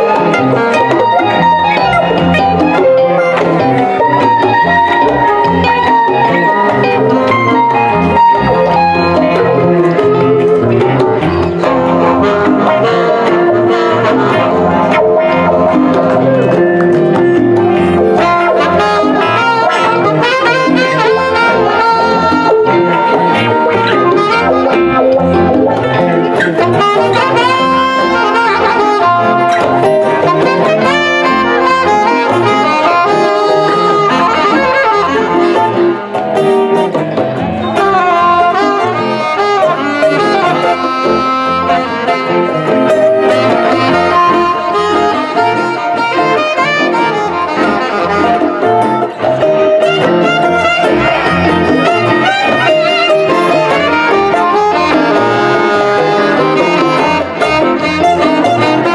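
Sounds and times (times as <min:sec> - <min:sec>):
live band playing: 0:00.0 - 0:58.9
saxophone melody: 0:00.0 - 0:58.9.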